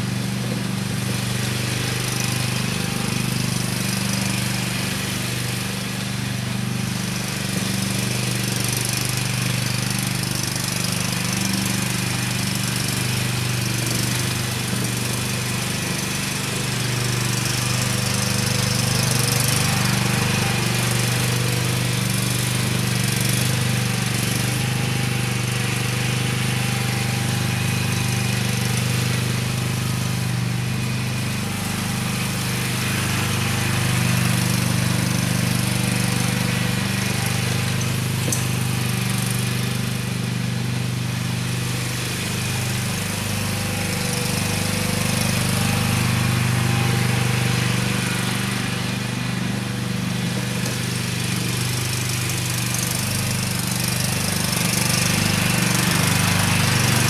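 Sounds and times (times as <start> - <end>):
leaf blower fan rushing air: 0.0 - 57.0
riding tractor engine: 0.0 - 57.0.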